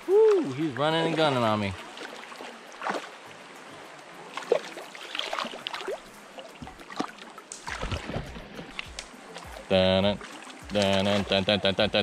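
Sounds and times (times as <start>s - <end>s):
creek water running over rocks: 0.0s - 12.0s
small sharp splashes: 1.0s - 11.4s.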